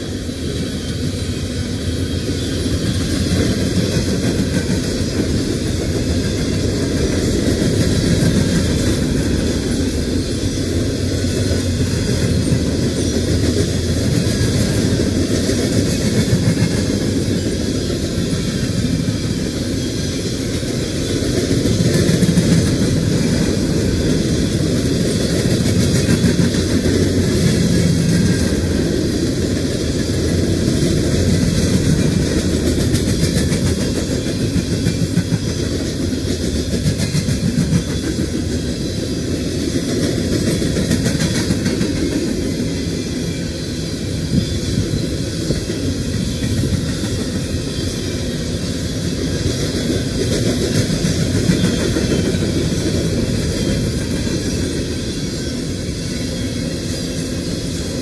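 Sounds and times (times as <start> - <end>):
steel train wheels on rails: 0.0 - 58.0.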